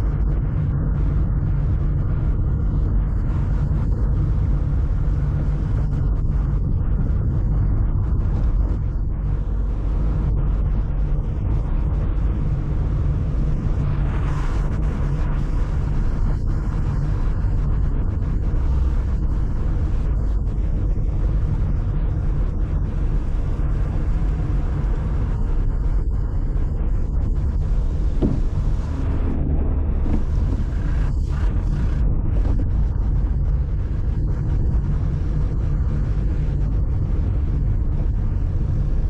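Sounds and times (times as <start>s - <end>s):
car road and wind noise: 0.0s - 39.0s.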